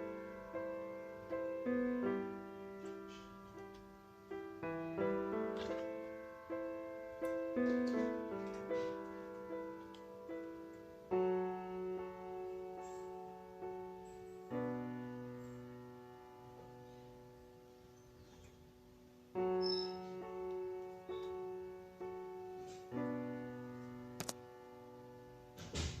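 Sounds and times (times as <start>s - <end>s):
gentle piano chords: 0.0s - 26.0s.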